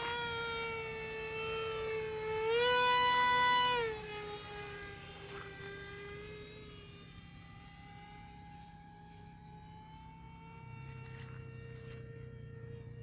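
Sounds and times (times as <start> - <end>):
higher motor tone: 0.0 - 13.0
model boat motor whining: 0.0 - 13.0.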